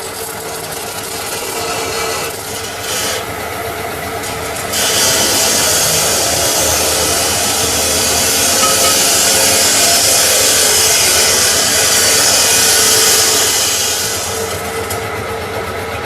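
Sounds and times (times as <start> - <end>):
power tool grinding steel: 0.0 - 15.0.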